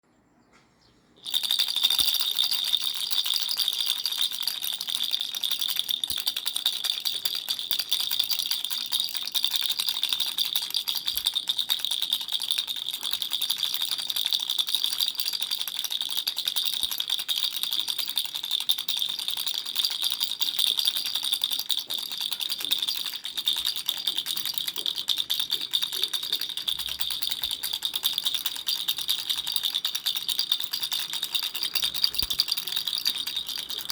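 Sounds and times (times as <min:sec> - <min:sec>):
baby's toy rattle shaken: 0:01.2 - 0:33.9.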